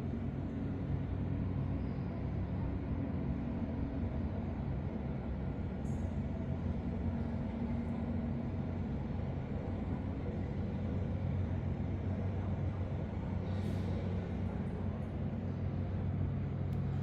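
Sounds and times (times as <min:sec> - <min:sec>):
large engine droning: 0:00.0 - 0:17.0.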